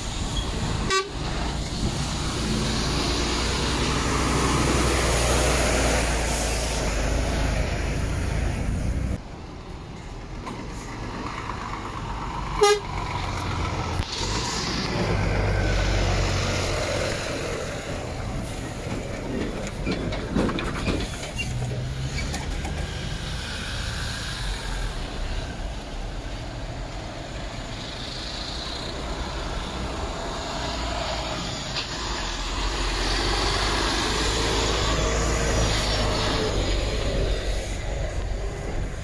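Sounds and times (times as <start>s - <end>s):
truck engines rumbling: 0.0s - 39.0s.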